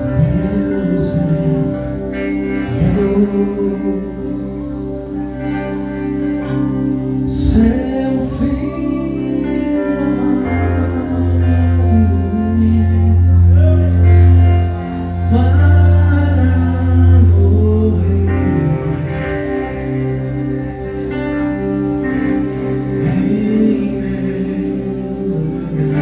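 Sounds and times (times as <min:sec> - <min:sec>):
deep bass line: 0:00.0 - 0:26.0
worship band playing: 0:00.0 - 0:26.0.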